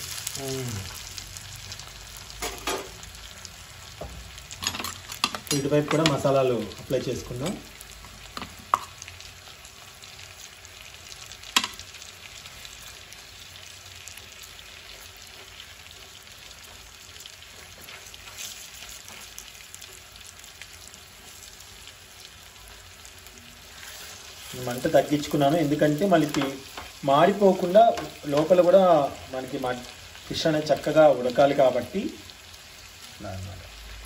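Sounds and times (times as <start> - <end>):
fish sizzling in oil: 0.0 - 34.0.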